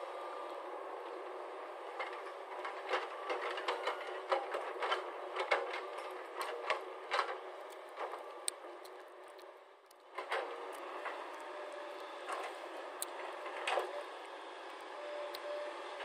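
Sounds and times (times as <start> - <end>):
excavator diesel engine humming: 0.0 - 16.0.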